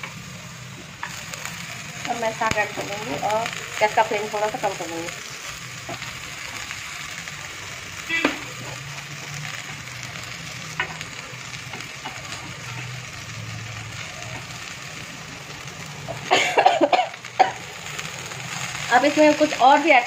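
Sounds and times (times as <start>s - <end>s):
greens sizzling in oil: 0.0s - 20.0s.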